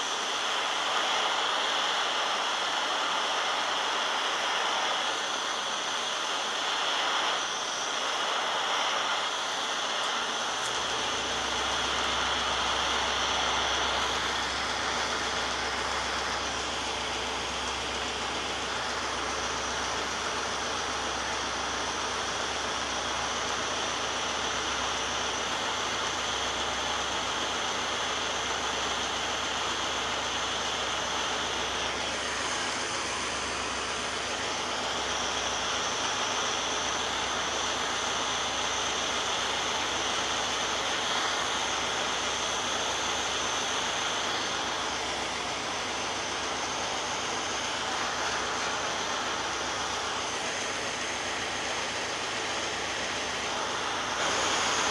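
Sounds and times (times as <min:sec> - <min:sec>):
torch flame hissing: 0:00.0 - 0:54.9.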